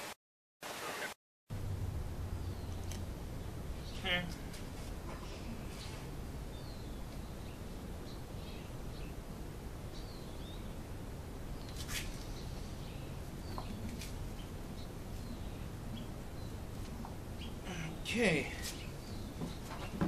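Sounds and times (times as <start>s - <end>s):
birds chirping: 1.5s - 20.0s
low outdoor rumble: 1.5s - 20.0s.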